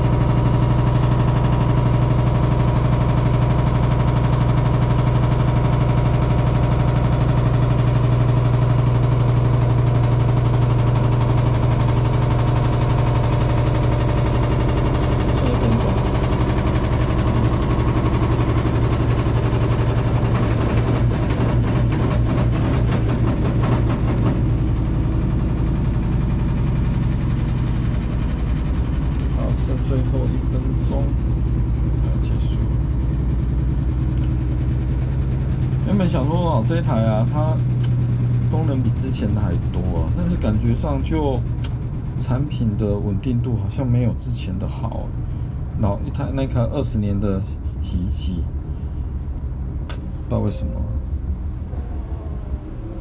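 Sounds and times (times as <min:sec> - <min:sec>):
rapid rattling: 0:00.0 - 0:43.7
washing machine spinning: 0:00.0 - 0:46.0.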